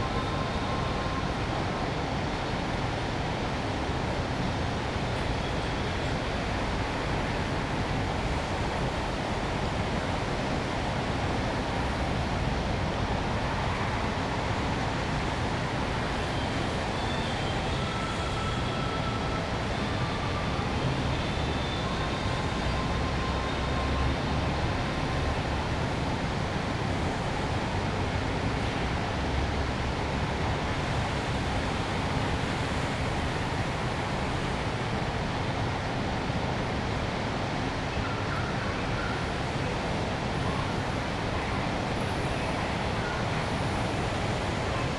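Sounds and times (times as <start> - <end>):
city traffic hum: 4.8 - 44.9.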